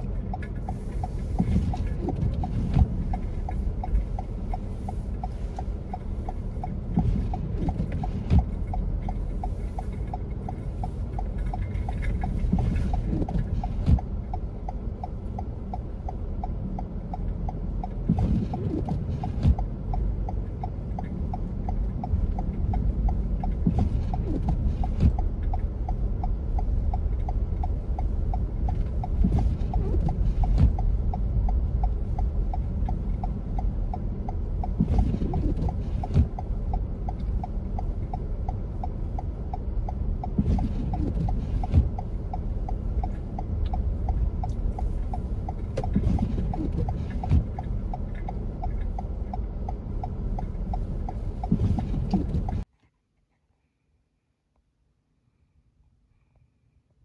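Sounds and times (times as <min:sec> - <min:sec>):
light ticking: 0:00.0 - 0:52.7
tyres and engine rumble: 0:00.0 - 0:52.8.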